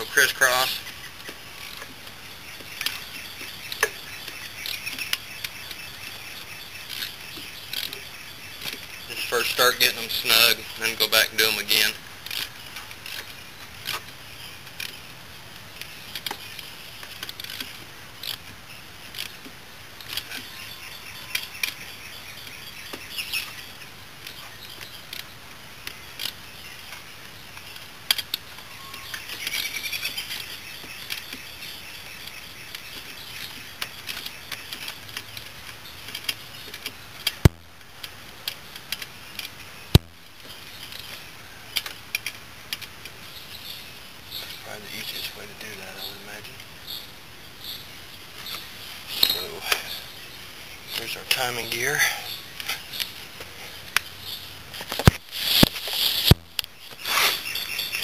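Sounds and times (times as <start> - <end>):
birds chirping: 0.0 - 37.8, 38.4 - 58.0.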